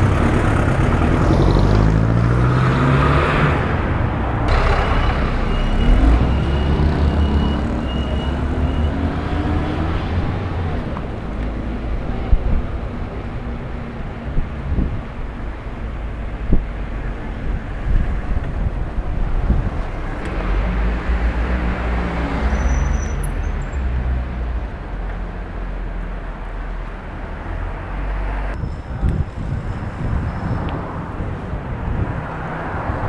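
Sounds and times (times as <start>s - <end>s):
rumble of passing cars: 0.0s - 33.0s.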